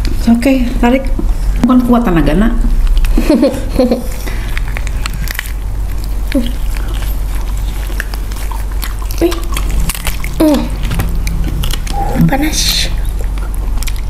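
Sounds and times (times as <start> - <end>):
steady low hum: 0.0 - 14.0
chewing and gnawing: 2.5 - 14.0.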